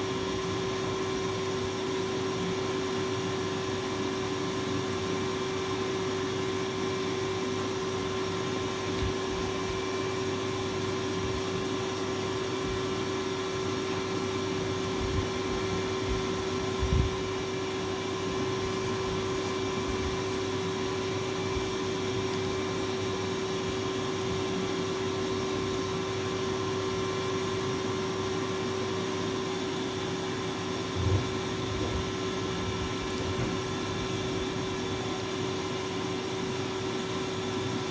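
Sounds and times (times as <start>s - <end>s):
electric water pump humming: 0.0s - 37.9s.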